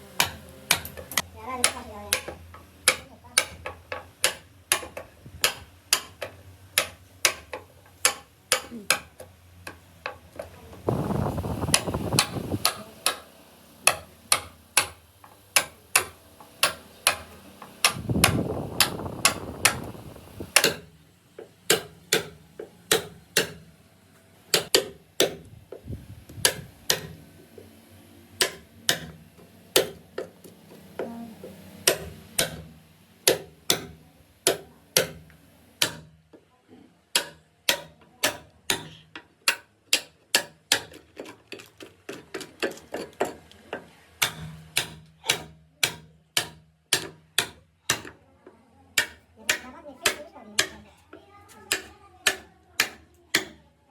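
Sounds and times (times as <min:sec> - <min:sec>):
chisel tapping on wood: 0:00.2 - 0:10.5, 0:11.7 - 0:19.8, 0:20.6 - 0:23.7, 0:24.5 - 0:25.8, 0:26.4 - 0:27.2, 0:28.4 - 0:29.2, 0:29.8 - 0:30.4, 0:31.8 - 0:36.5, 0:37.1 - 0:41.0, 0:42.1 - 0:48.2, 0:49.0 - 0:50.8, 0:51.7 - 0:53.6.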